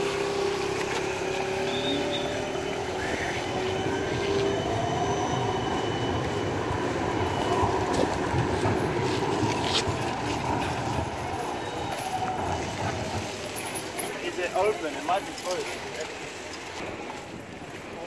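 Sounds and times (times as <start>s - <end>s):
whining tones from wheels: 0.0s - 15.7s
tram wheels rumbling on rails: 0.0s - 18.0s.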